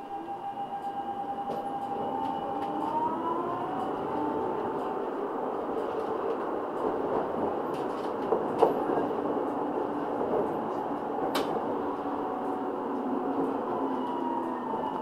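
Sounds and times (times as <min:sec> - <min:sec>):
tram wheels rolling on rails: 0:00.1 - 0:15.0.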